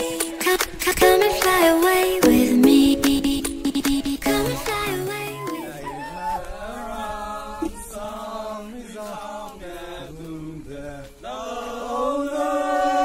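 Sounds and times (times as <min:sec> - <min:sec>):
voices singing a chant: 0:00.0 - 0:13.0.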